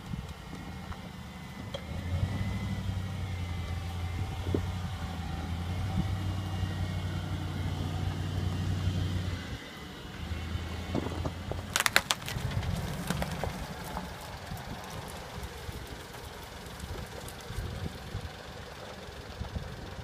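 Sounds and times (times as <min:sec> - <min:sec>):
suv engine running at low revs: 0:00.0 - 0:20.0.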